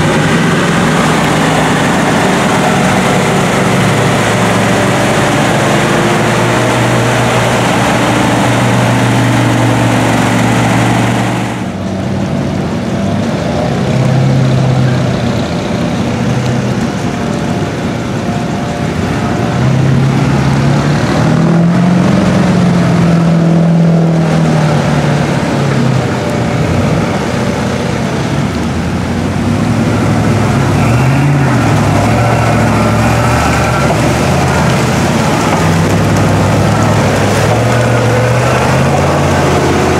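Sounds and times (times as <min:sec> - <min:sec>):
truck engines revving: 0:00.0 - 0:39.9
trucks driving through water and mud: 0:00.0 - 0:39.9.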